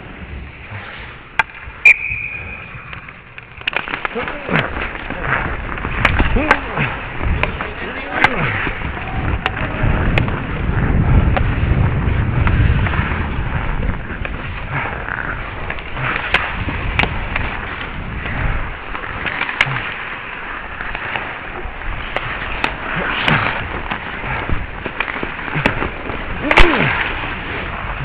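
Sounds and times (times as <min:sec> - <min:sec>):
skate blades scraping ice: 0:00.0 - 0:28.0
sticks and puck clacking: 0:00.6 - 0:28.0.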